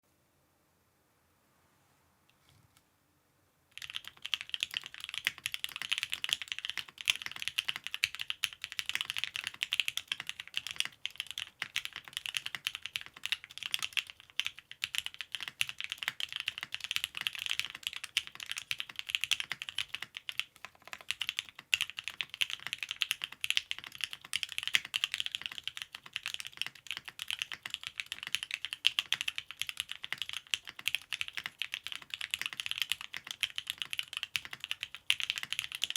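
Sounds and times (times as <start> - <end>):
fast typing on mechanical keyboard: 3.8 - 35.9.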